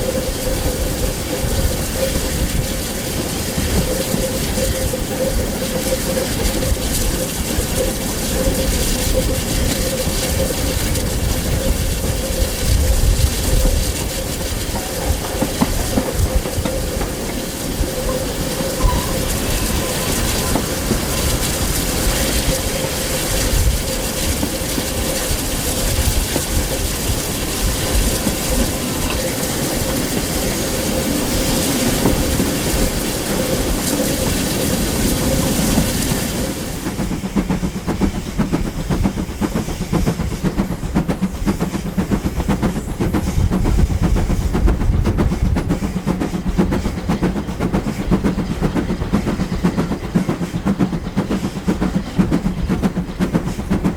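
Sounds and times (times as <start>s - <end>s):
steam train running: 0.0s - 53.9s.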